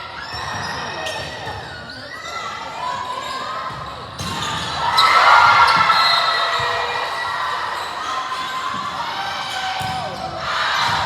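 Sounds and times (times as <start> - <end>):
crowd noise in echoing gym: 0.0 - 11.0.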